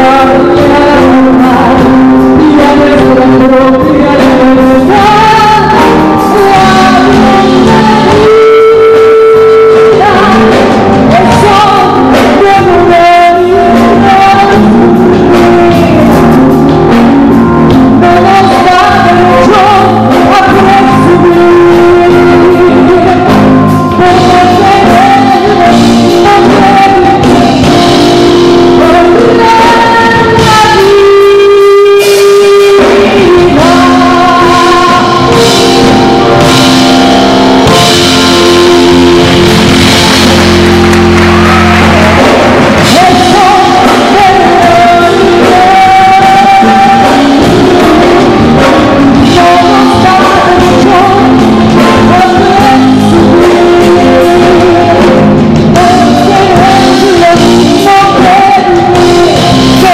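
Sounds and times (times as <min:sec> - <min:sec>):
instrumental accompaniment: 0:00.0 - 0:59.9
woman singing with vibrato: 0:00.0 - 0:59.9.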